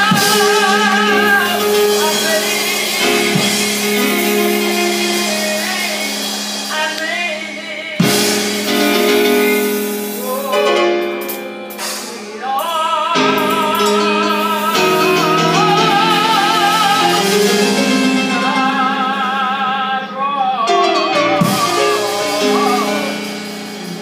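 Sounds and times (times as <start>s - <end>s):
instrumental accompaniment: 0.0s - 24.0s
person singing with vibrato: 0.0s - 24.0s.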